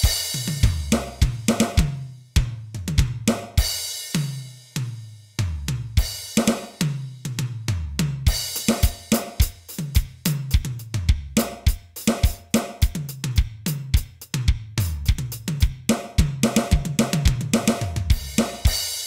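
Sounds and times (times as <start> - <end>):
electronic drum rock beat: 0.0 - 19.0.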